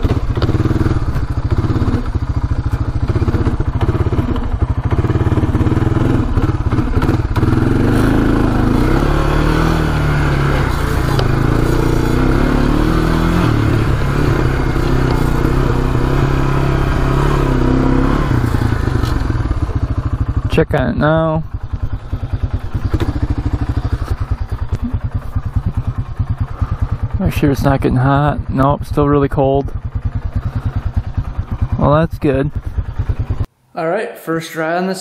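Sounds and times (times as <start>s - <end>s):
atv engine running: 0.0s - 33.5s.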